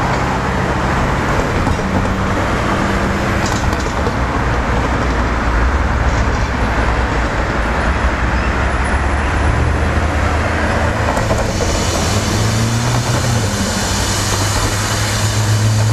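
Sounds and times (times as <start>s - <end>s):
train rolling rumble: 0.0s - 15.9s.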